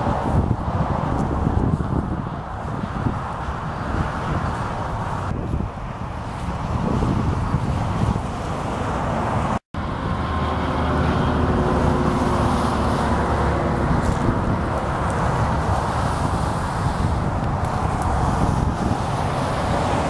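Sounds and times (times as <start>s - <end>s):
highway traffic rushing: 0.0s - 20.0s
vehicle hum: 0.0s - 20.0s
wind buffeting microphone: 0.0s - 20.0s.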